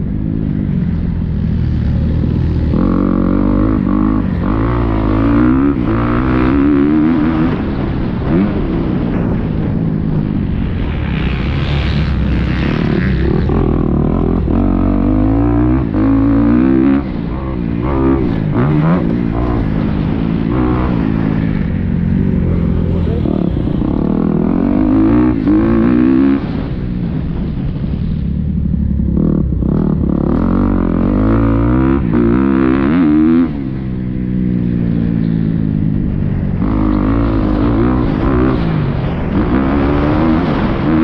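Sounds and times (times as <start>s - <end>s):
motocross bike engine revving: 0.6s - 9.5s, 10.8s - 27.2s, 29.0s - 34.2s, 36.6s - 41.0s.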